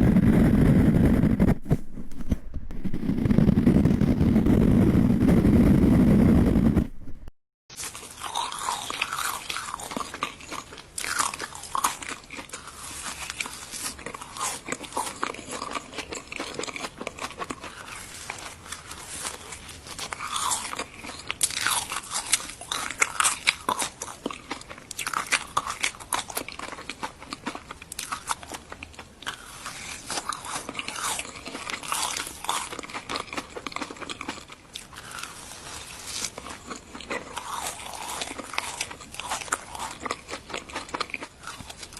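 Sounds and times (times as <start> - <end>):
dense crackling and crunching: 0.0 - 41.9.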